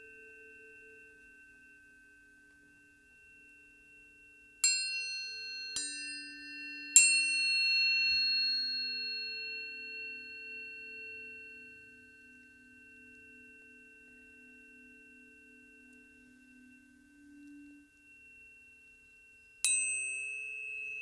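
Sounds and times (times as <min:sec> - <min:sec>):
tuning forks ringing: 0:00.0 - 0:21.0.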